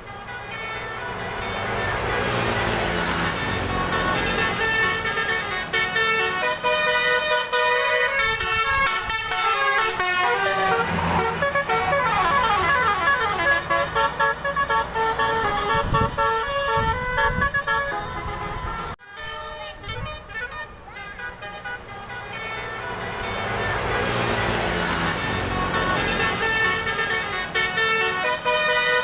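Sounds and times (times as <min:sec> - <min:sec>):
multi-tone bus air horn melody: 0:00.0 - 0:29.0.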